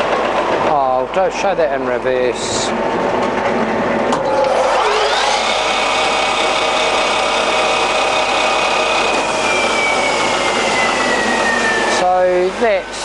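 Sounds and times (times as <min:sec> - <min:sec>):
lathe gear whine: 0:00.0 - 0:13.0.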